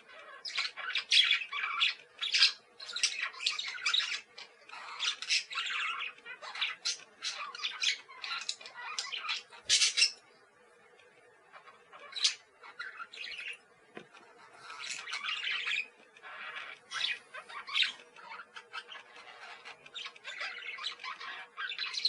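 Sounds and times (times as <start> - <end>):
parakeets chattering and squawking: 0.0 - 22.0.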